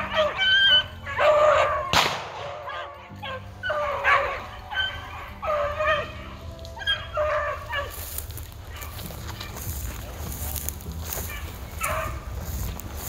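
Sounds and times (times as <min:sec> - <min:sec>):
hounds baying: 0:00.0 - 0:13.0.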